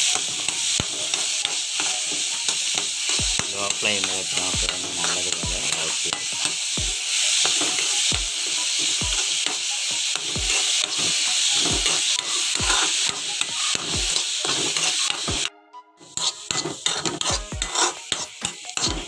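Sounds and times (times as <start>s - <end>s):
vegetables sizzling in a pan: 0.0s - 19.0s.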